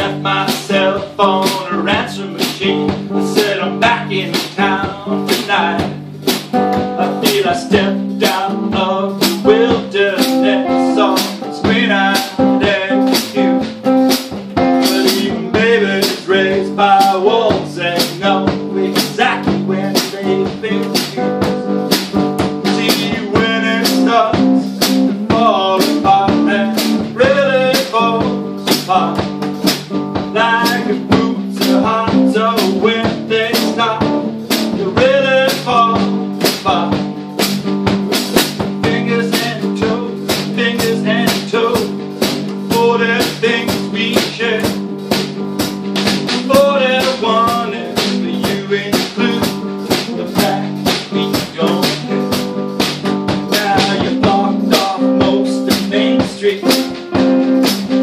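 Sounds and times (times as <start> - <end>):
acoustic bass guitar: 0.0 - 58.0
drum kit with cymbals: 0.0 - 58.0.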